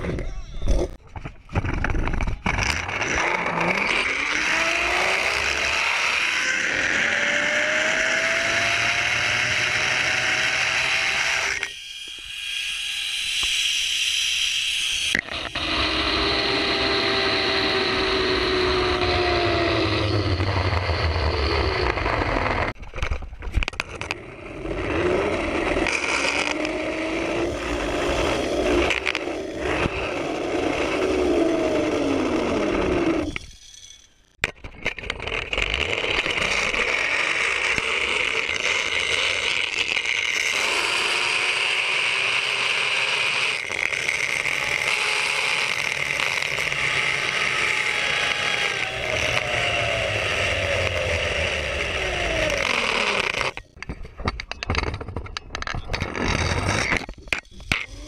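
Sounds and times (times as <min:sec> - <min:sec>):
zip line pulleys whining on cable: 0:02.4 - 0:22.8, 0:24.0 - 0:34.1, 0:35.1 - 0:53.8, 0:57.6 - 0:58.0.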